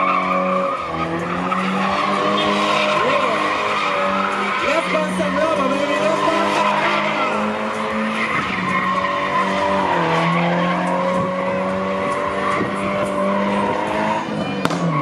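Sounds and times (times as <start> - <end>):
car engine revving: 0.0 - 15.0
tyres skidding and squealing: 0.0 - 15.0.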